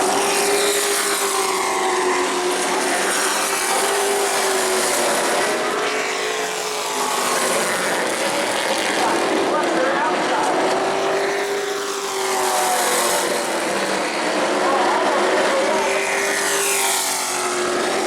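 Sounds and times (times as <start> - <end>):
truck engines racing: 0.0 - 18.0.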